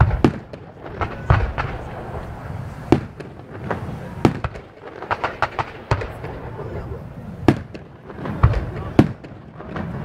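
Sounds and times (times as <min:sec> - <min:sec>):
fireworks bursting with bangs: 0:00.0 - 0:10.0.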